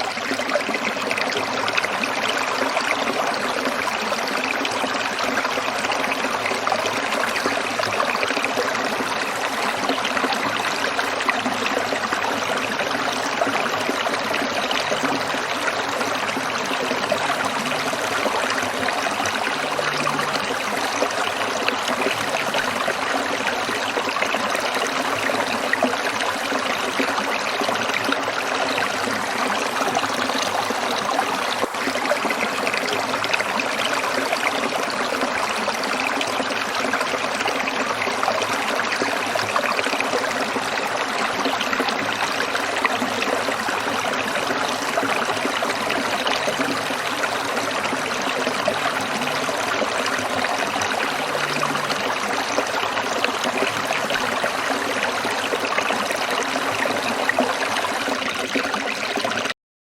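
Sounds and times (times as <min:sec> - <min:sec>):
stream water babbling: 0:00.0 - 0:59.6.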